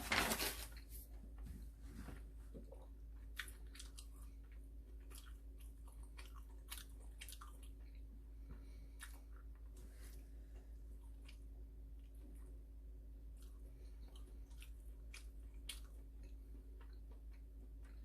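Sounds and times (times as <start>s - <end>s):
steady low hum: 0.0s - 18.0s
chewing with light clicks: 2.6s - 9.8s, 10.4s - 18.0s.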